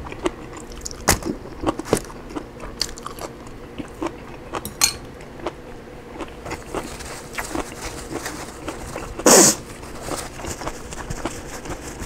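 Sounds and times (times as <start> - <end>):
person biting and chewing food: 0.0 - 12.0.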